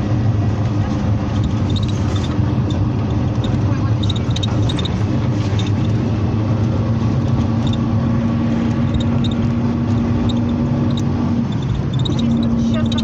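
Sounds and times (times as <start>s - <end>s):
engine and road rumble: 0.0s - 13.0s
light rattles: 0.4s - 13.0s.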